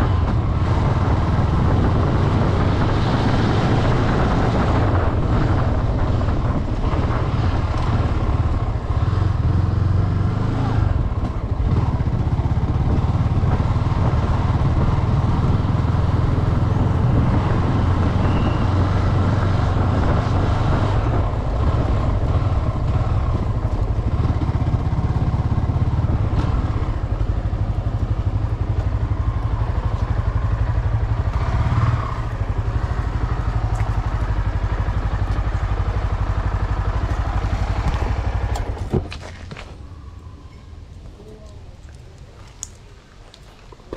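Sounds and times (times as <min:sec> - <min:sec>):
motorcycle engine running: 0:00.0 - 0:40.2
road and wind noise: 0:00.0 - 0:43.9.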